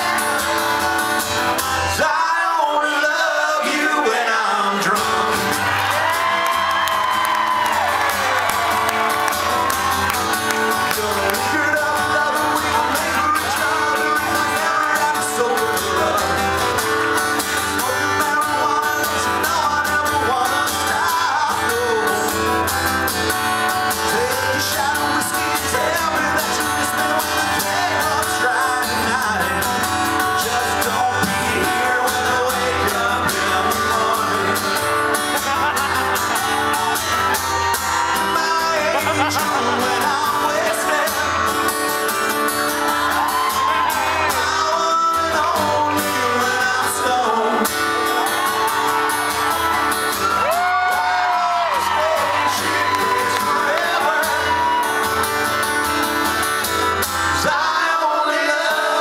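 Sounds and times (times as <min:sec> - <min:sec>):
acoustic guitar strumming: 0:00.0 - 0:59.0
person singing: 0:01.9 - 0:08.9, 0:10.3 - 0:22.8, 0:23.8 - 0:49.8, 0:50.4 - 0:55.3, 0:57.3 - 0:59.0.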